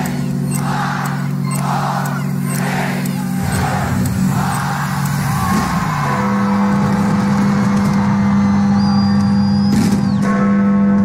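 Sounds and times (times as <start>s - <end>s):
crowd noise: 0.0s - 10.3s
firework whistle: 0.0s - 10.4s.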